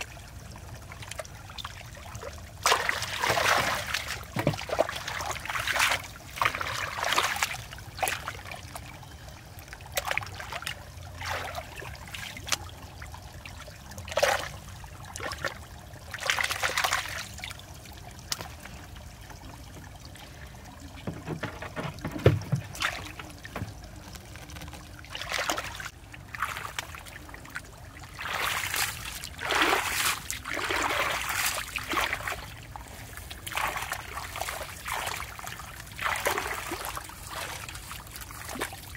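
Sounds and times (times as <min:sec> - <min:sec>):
muddy water sloshing and splashing: 0:00.0 - 0:38.9.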